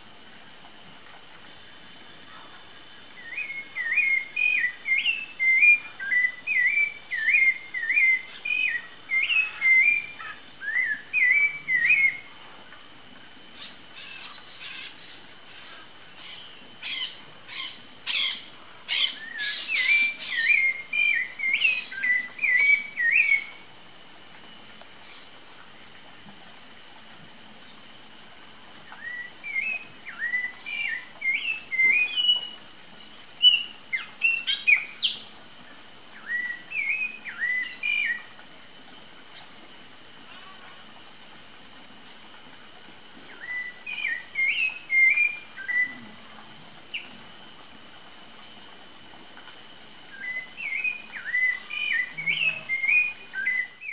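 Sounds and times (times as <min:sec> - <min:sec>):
high-pitched background buzz: 0:00.0 - 0:53.9.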